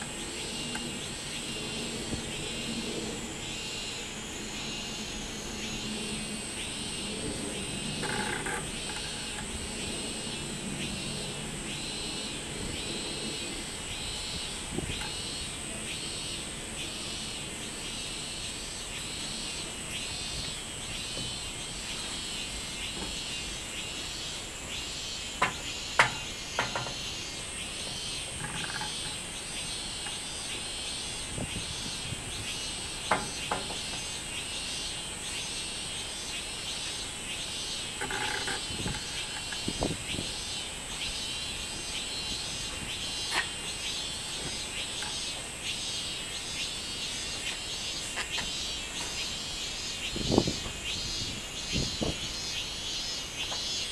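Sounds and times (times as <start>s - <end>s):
cicadas calling: 0.0s - 53.9s.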